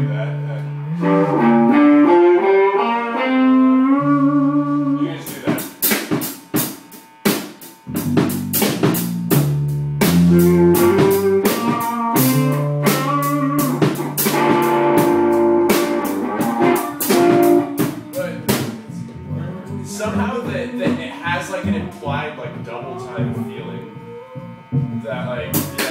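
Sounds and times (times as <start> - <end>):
bass line: 0.0 - 25.9
guitar chords: 0.0 - 25.9
drum kit beat: 0.3 - 25.9.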